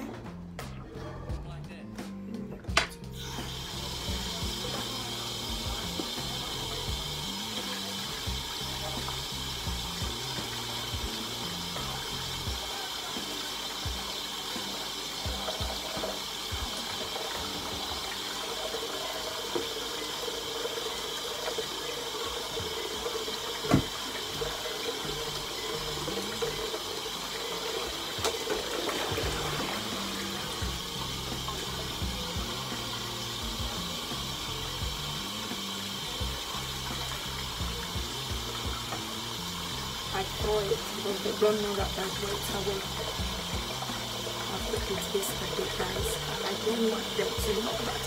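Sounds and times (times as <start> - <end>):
tap water running into sink: 2.7 - 48.0.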